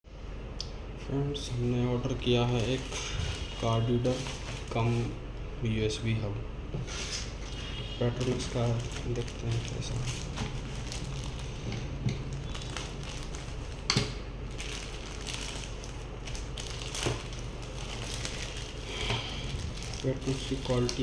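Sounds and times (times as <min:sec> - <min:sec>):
steady low hum: 0:00.1 - 0:21.0
packaging rustling: 0:02.4 - 0:05.2, 0:06.9 - 0:21.0.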